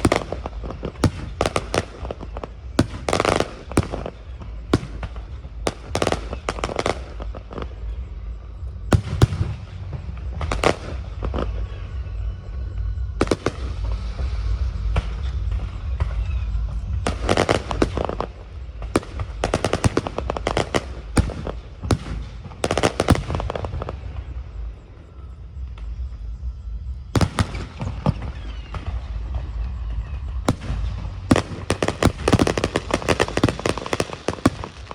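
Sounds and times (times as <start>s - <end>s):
fireworks bangs: 0.0s - 24.9s, 27.0s - 34.9s
fireworks crackling: 0.0s - 26.3s, 26.9s - 34.9s
low rumble: 0.0s - 34.9s.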